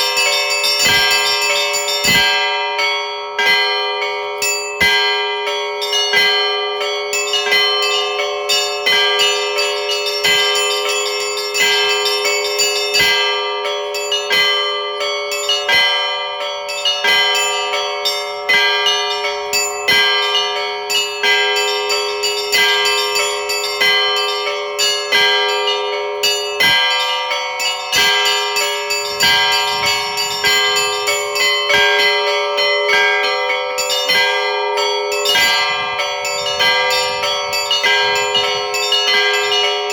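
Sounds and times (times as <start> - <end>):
large bell ringing: 0.0 - 39.9
small church bells striking quickly: 0.0 - 39.9.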